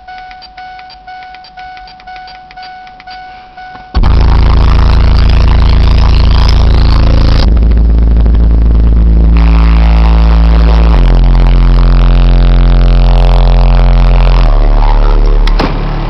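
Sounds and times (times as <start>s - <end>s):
loud bass-heavy music: 0.0s - 16.0s.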